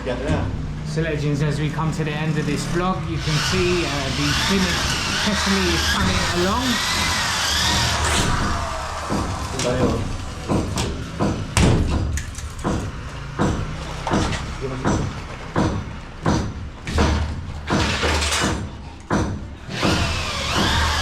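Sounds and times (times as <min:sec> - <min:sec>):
tool striking ceiling: 0:03.2 - 0:21.0.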